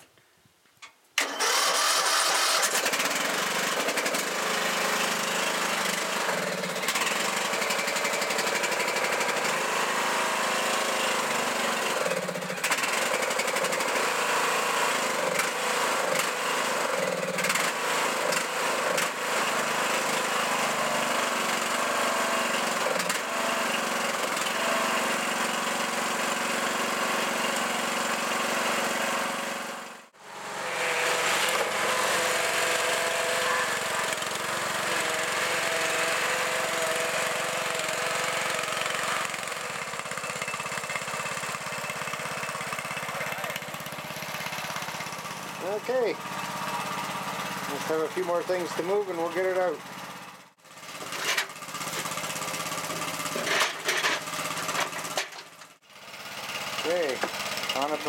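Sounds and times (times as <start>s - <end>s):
lawn mower engine running: 1.2s - 58.0s.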